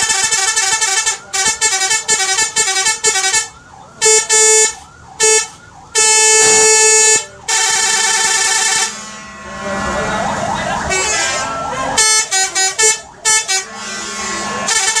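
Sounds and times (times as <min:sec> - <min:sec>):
air horn blasts: 0:00.0 - 0:15.0
multi-tone bus horn toots: 0:00.0 - 0:15.0.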